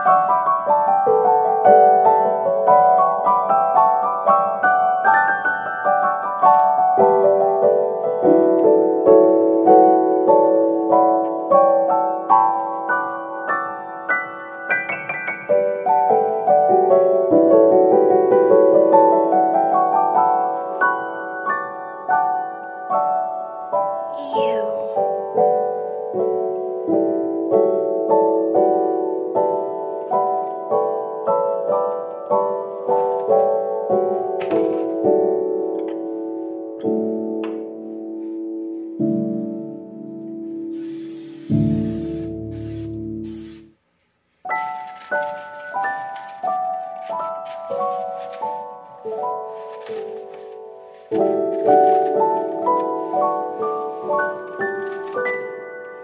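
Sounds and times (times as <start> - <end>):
gentle piano melody: 0.0 - 56.0.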